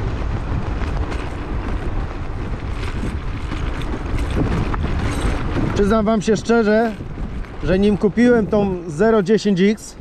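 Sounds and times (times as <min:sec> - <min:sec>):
scooter tyres rumbling on road: 0:00.0 - 0:10.0
wind on microphone: 0:00.0 - 0:10.0.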